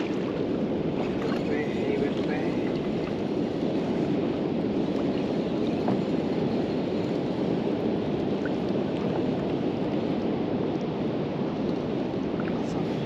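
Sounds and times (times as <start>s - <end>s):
water rushing around a kayak: 0.0s - 13.0s.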